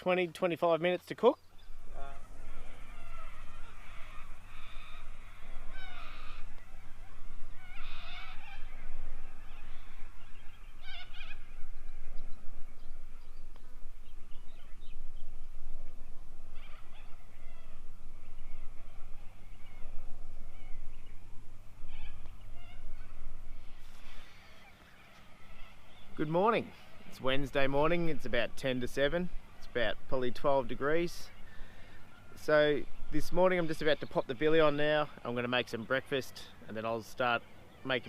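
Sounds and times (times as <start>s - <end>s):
birds calling: 0.0s - 38.0s
steady low hum: 1.4s - 36.8s.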